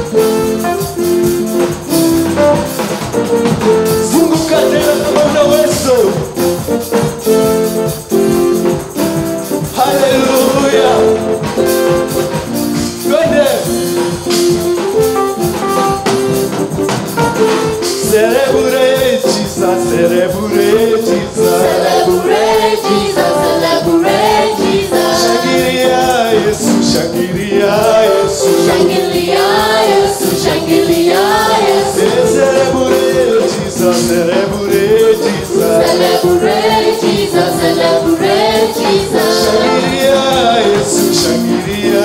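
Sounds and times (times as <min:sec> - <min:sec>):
gospel singing with backing singers: 0:00.0 - 0:14.9, 0:17.4 - 0:42.0
drums: 0:00.0 - 0:42.0
keyboard: 0:00.0 - 0:42.0.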